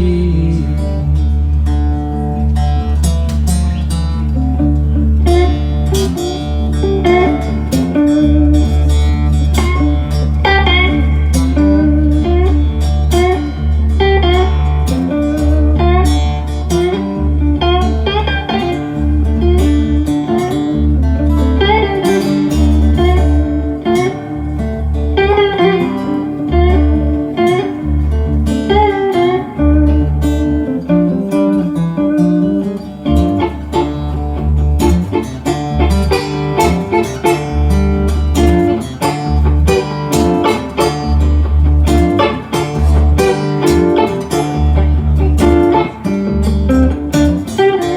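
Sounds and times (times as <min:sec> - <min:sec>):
deep bass notes: 0:00.0 - 0:47.9
picked guitar lines: 0:00.0 - 0:47.9.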